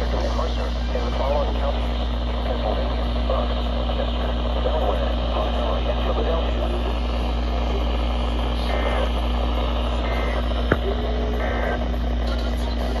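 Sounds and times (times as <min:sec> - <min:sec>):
radio static and hum: 0:00.0 - 0:13.0
warbling data bursts: 0:00.0 - 0:13.0.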